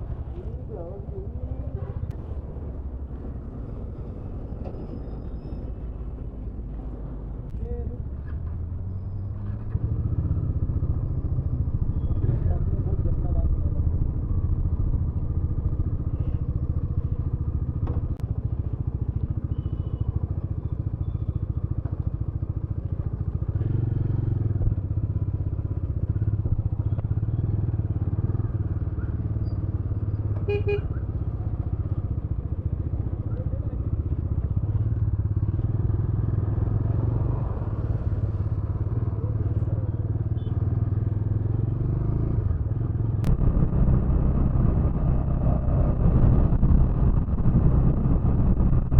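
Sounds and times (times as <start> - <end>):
motorcycle engine running: 9.2 - 48.9.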